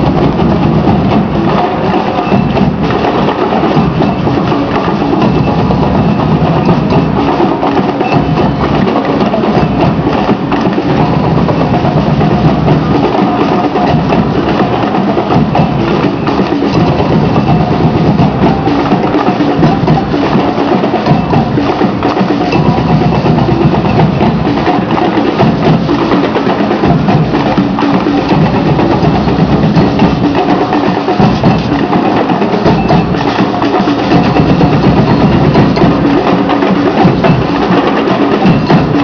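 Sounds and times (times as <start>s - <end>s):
percussion band drumming: 0.0s - 39.0s.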